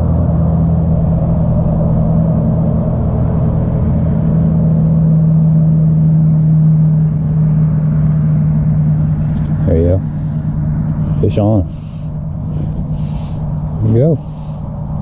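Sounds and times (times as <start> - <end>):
loud low motor hum: 0.0 - 15.0.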